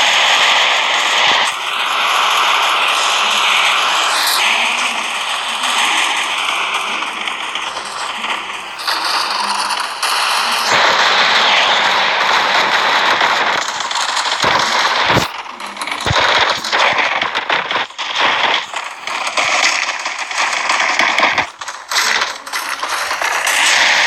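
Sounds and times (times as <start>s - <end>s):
dense crackling and popping: 0.0s - 24.0s.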